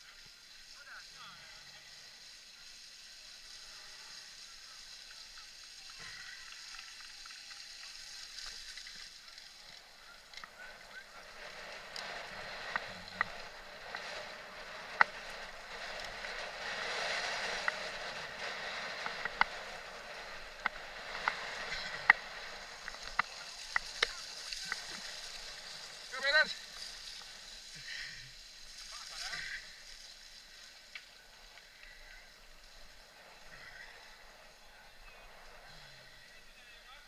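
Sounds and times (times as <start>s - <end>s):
bike tyres rolling on dirt: 0.0s - 37.0s
bike clicking and rattling: 2.2s - 34.6s.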